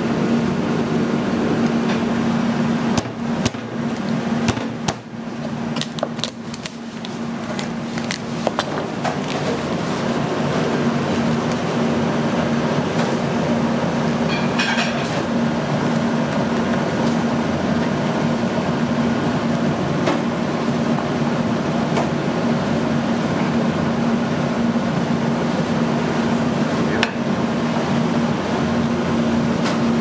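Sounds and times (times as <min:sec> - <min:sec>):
kitchen ventilation drone: 0:00.0 - 0:30.0.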